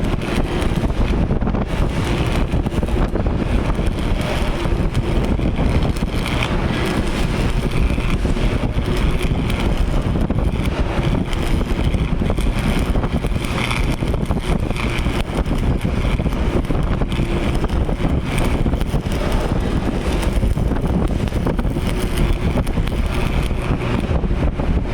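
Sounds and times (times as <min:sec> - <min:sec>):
arc welding crackling hiss: 0:00.0 - 0:24.9.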